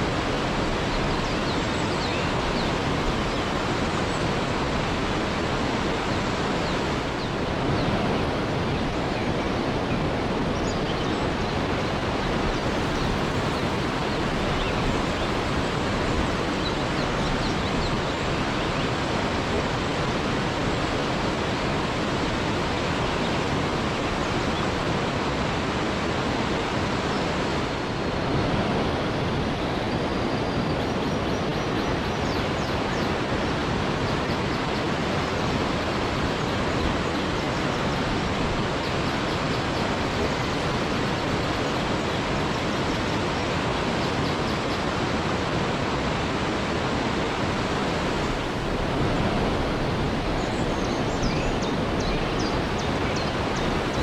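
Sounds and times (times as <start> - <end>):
waterfall rushing: 0.0 - 30.2, 32.7 - 54.0.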